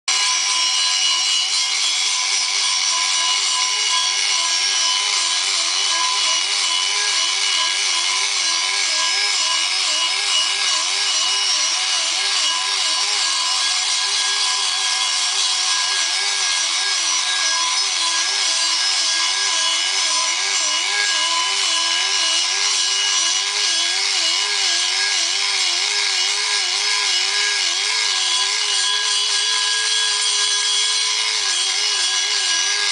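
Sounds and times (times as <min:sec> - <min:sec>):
die grinder whining: 0:00.1 - 0:32.9.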